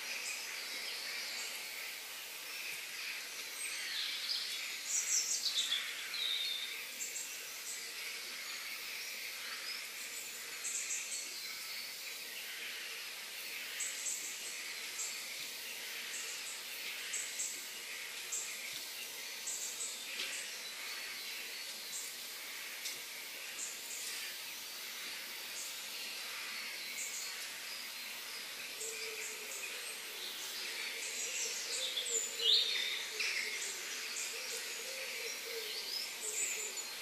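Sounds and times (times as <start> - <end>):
high insect drone: 0.0 - 37.0.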